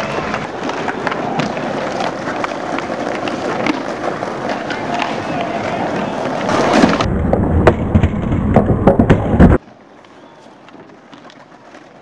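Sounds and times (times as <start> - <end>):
skateboard clacks: 0.0 - 12.0
skateboard wheels rolling on pavement: 0.0 - 12.0.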